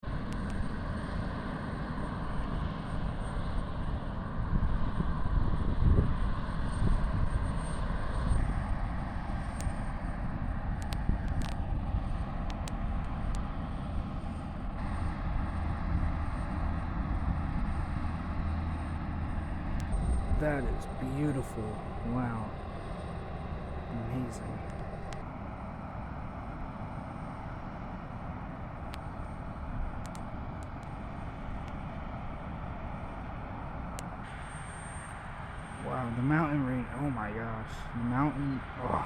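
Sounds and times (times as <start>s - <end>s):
aircraft engine rumble: 0.0s - 39.0s.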